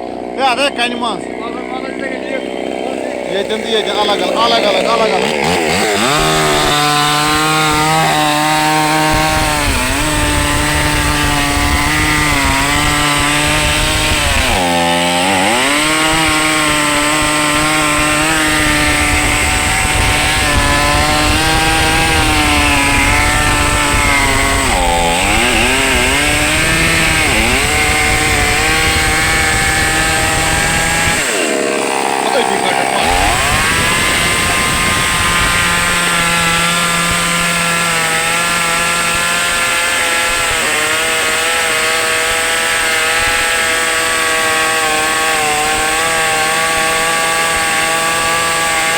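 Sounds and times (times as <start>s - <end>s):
chainsaw engine at high revs: 0.0s - 48.9s.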